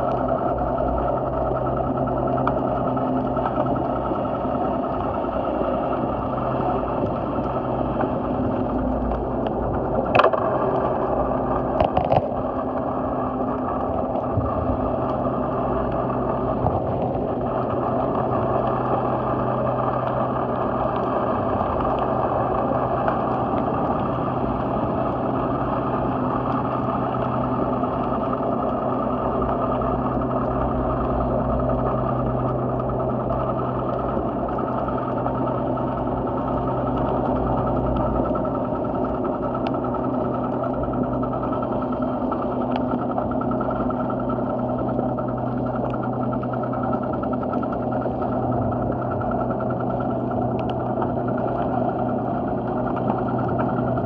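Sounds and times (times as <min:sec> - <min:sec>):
machine drone with low hum: 0:00.0 - 0:54.0.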